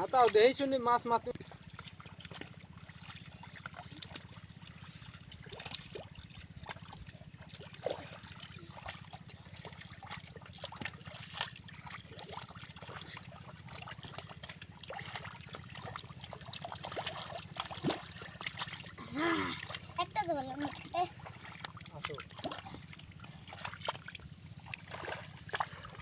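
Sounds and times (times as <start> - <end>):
river water splashing: 0.0 - 26.0
steady low hum: 0.0 - 26.0.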